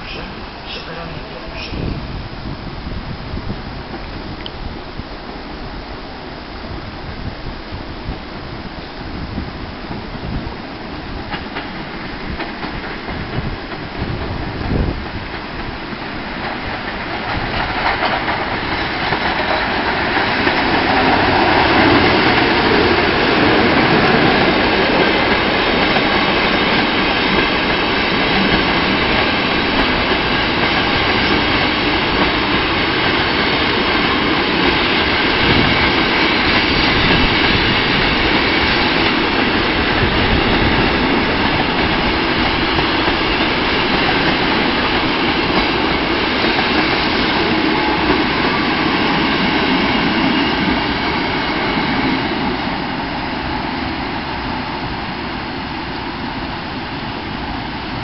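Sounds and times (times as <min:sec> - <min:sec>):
train wheels clicking over rails: 0:09.9 - 0:58.0.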